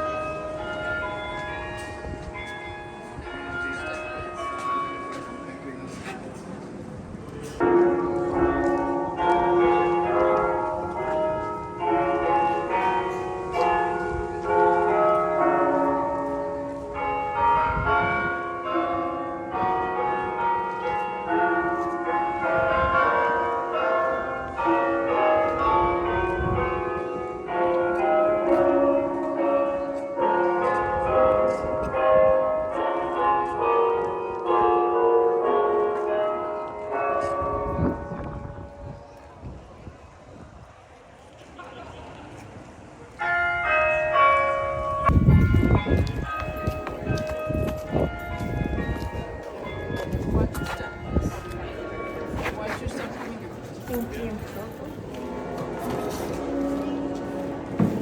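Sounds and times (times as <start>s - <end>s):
church bells ringing: 0.0s - 39.9s, 43.1s - 58.0s.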